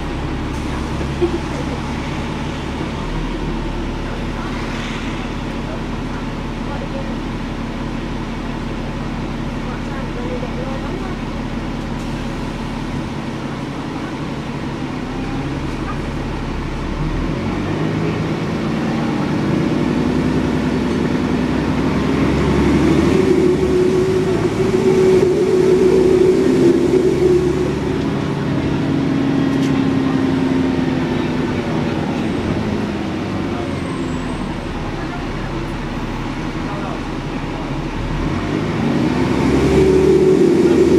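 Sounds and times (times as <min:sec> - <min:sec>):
bus diesel engine accelerating: 0:00.0 - 0:40.9.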